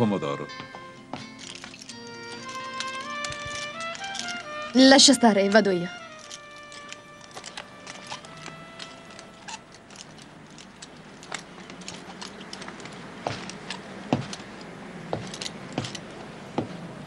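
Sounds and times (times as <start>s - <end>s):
household clinks and knocks: 0.6s - 16.8s.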